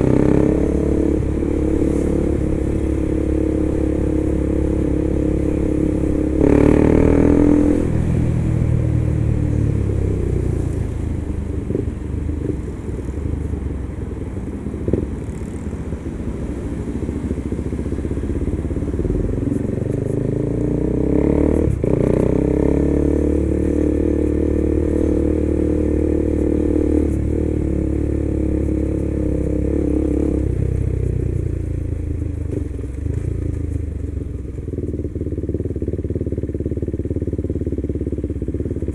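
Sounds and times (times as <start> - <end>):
motorcycle engine revving: 0.0 - 13.6, 14.6 - 38.9.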